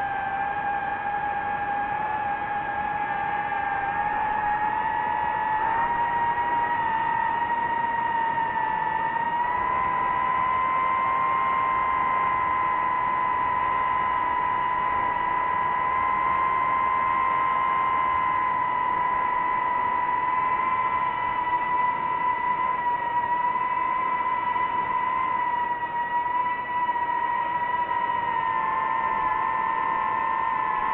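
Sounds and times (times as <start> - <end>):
drone propellers whining: 0.0 - 30.9.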